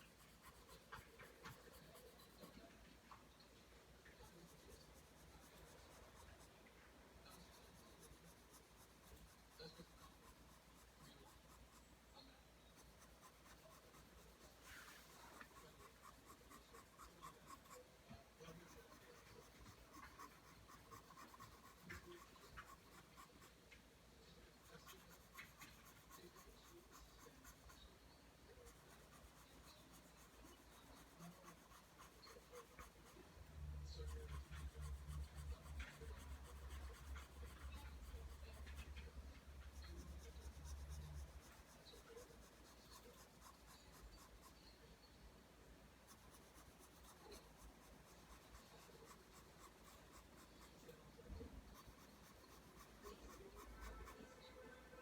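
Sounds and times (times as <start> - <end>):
pencil scratching on paper: 0.0 - 2.9, 4.0 - 23.7, 24.4 - 27.9, 28.5 - 44.7, 46.0 - 55.0.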